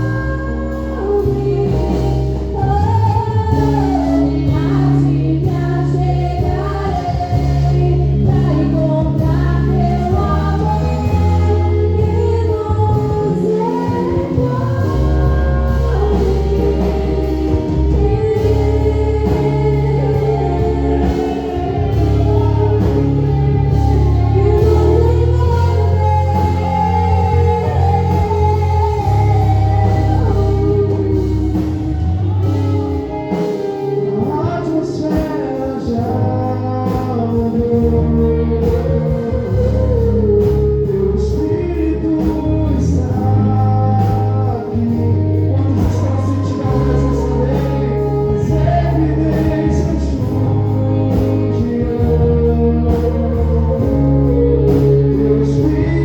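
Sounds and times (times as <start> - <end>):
bass line: 0.0 - 56.0
gospel singing with band: 0.0 - 56.0.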